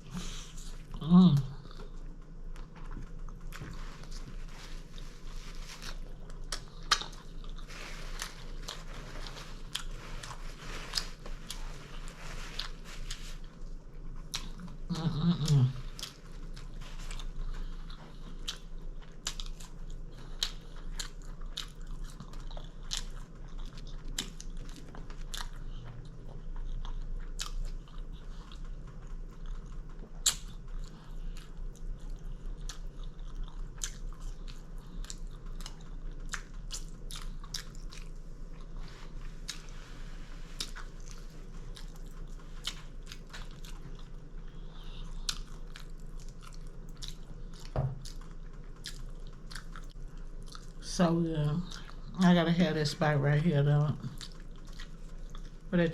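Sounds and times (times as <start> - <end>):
chewing crispy food: 0.0 - 55.9
steady low hum: 0.0 - 55.9.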